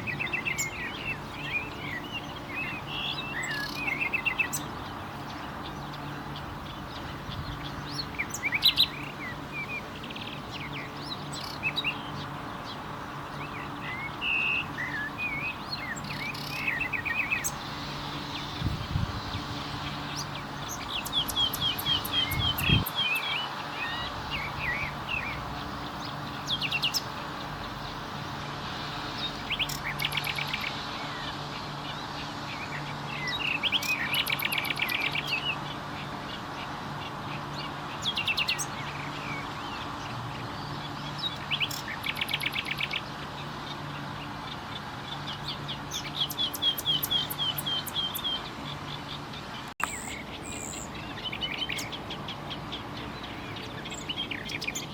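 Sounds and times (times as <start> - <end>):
nightingale singing: 0.0 - 32.0, 32.6 - 35.7, 37.6 - 43.1, 45.0 - 54.9.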